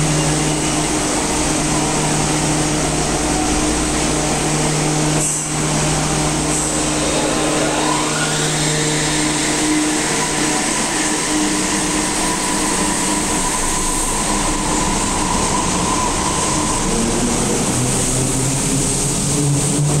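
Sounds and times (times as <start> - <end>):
train electric motor whine: 0.0 - 20.0
train rail rumble: 0.0 - 20.0.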